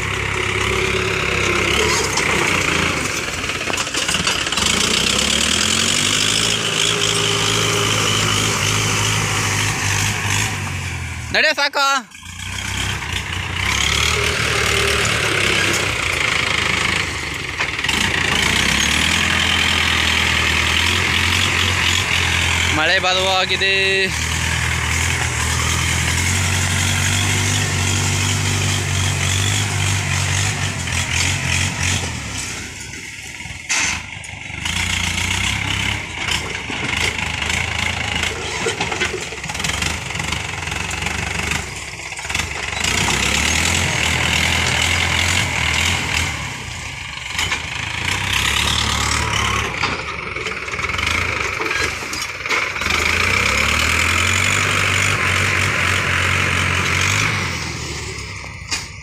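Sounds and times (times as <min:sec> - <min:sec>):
diesel tractor engine under load: 0:00.0 - 0:59.0.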